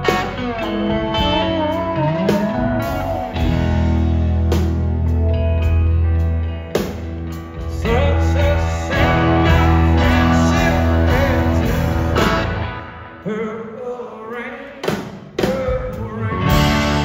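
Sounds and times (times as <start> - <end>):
live rock band playing: 0.0 - 13.5, 14.8 - 17.0
electric guitar: 0.0 - 13.6, 15.7 - 17.0.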